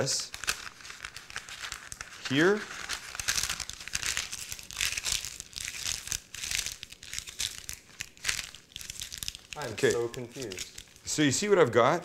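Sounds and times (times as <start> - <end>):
parchment paper crinkling: 0.0 - 11.5.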